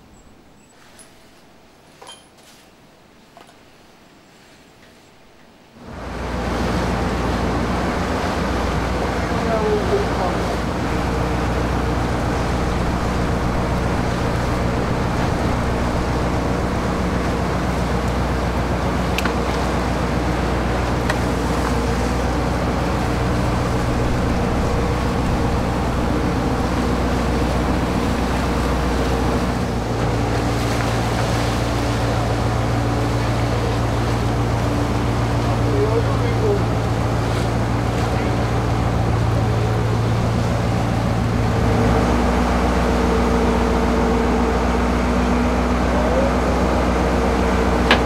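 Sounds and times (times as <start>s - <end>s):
wind: 0.0s - 48.0s
boat engine running: 5.8s - 48.0s
water rushing past hull: 5.8s - 48.0s.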